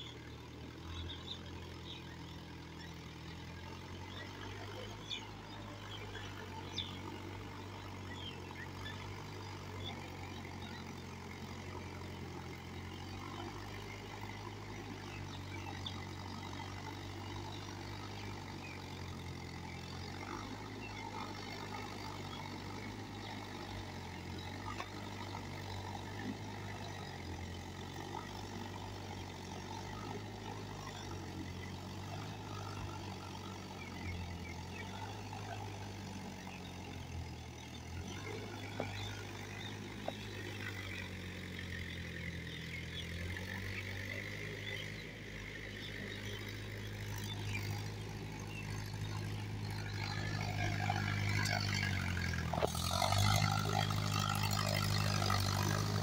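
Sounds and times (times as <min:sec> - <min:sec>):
tractor engine humming: 0:00.0 - 0:56.0.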